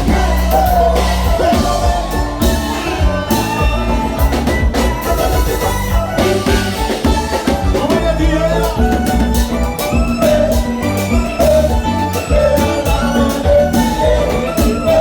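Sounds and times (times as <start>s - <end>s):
loud dance music: 0.0s - 15.0s.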